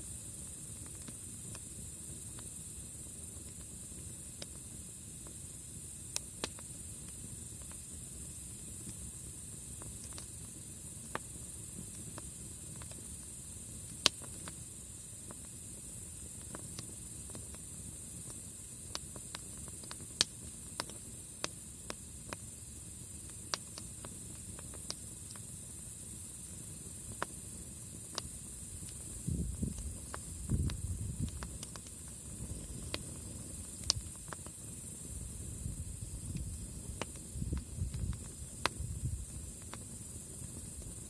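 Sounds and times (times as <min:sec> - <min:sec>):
campfire crackling and popping: 0:00.0 - 0:41.0
fire hissing: 0:00.0 - 0:41.0.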